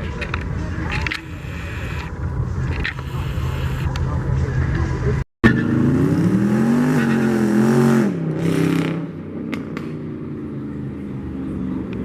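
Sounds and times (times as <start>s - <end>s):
car engine revving: 1.2s - 11.8s.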